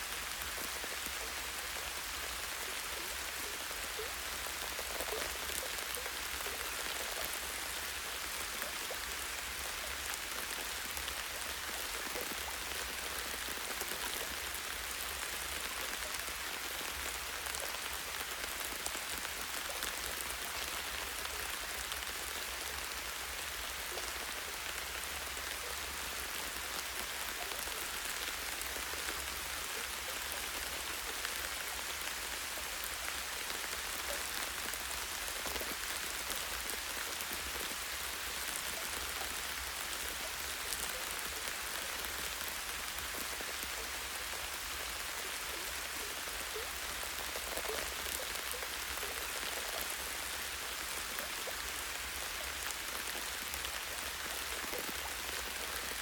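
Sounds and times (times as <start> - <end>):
light rain on leaves: 0.0 - 56.0.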